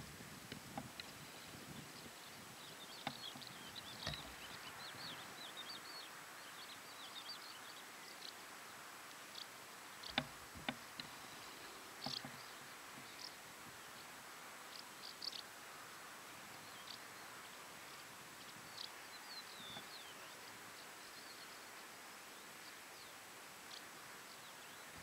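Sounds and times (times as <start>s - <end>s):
steady outdoor hiss: 0.0s - 25.0s
small birds twittering: 0.6s - 25.0s.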